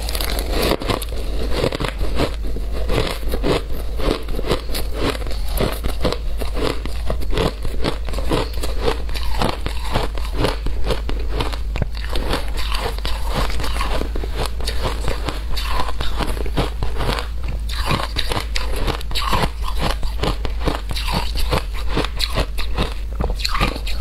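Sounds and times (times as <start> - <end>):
shaved ice being chewed: 0.0 - 24.0.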